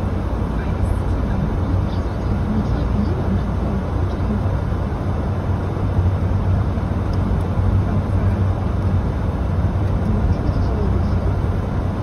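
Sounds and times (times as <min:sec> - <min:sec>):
car engine drone: 0:00.0 - 0:12.0
tyres on a wet road: 0:00.0 - 0:12.0.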